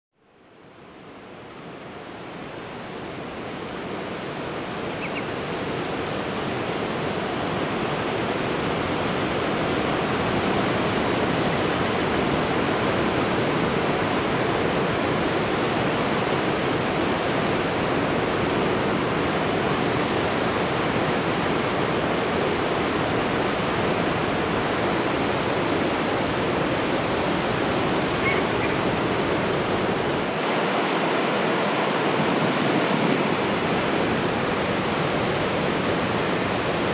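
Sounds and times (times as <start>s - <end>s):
ocean surf breaking on beach: 0.6s - 36.9s.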